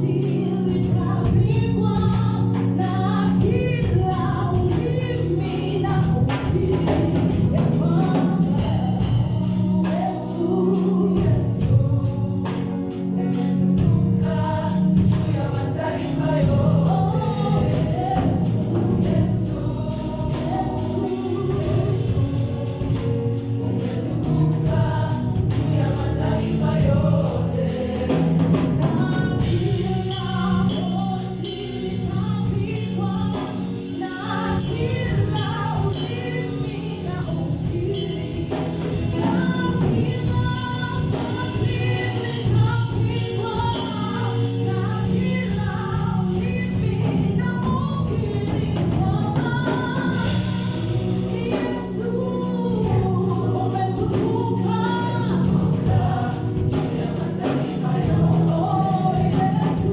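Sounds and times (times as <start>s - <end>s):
rhythmic percussion: 0.0s - 47.8s, 48.6s - 59.9s
bass line: 0.0s - 59.9s
gospel choir singing: 0.0s - 59.9s.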